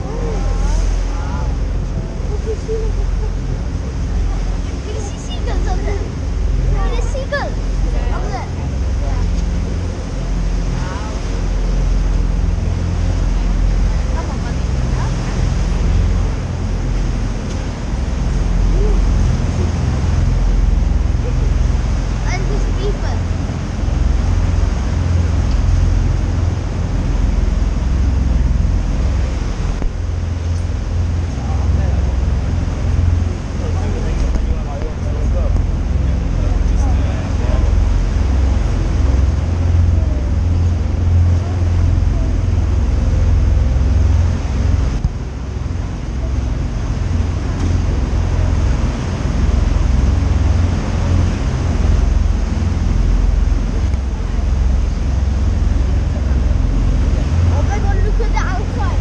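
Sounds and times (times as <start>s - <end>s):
boat engine rumbling: 0.0s - 59.0s
water rushing against hull: 0.0s - 59.0s
wind buffeting microphone: 0.0s - 59.0s.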